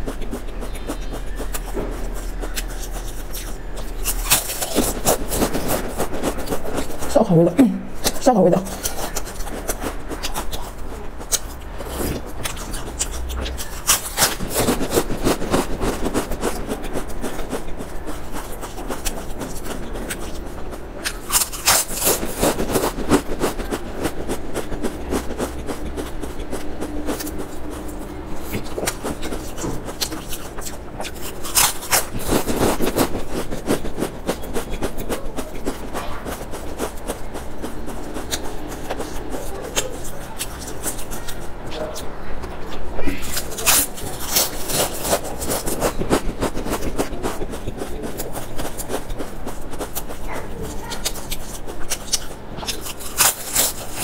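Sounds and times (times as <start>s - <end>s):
chewing potato crisps: 0.0s - 54.0s.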